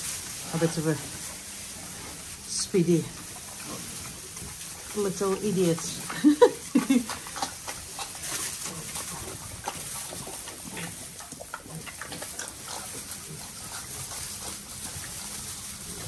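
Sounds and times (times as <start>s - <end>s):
pigs crunching bread: 0.0s - 16.0s.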